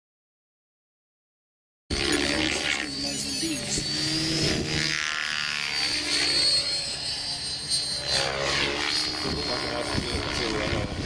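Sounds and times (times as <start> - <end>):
model aircraft motor whine: 1.9 - 11.0.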